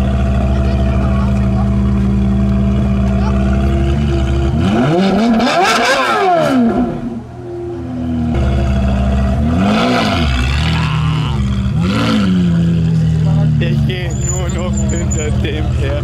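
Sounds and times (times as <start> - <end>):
sports car engine idling: 0.0 - 5.4, 6.2 - 16.0
engine revving: 0.0 - 7.2, 8.1 - 16.0.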